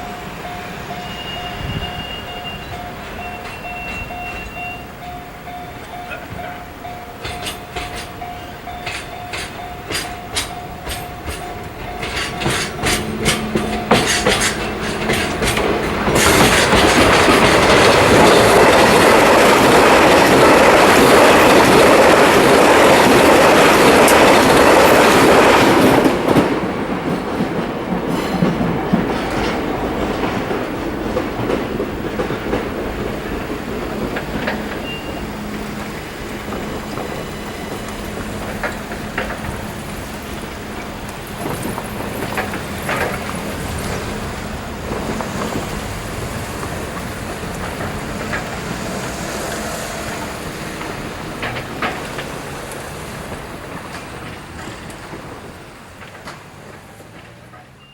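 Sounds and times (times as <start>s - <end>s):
train rushing by: 0.0s - 57.9s
train wheels clacking over rail joints: 0.0s - 57.9s.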